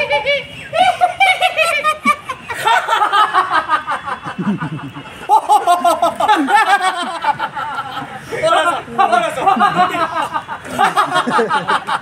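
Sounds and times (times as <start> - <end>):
man laughing: 0.1 - 12.0.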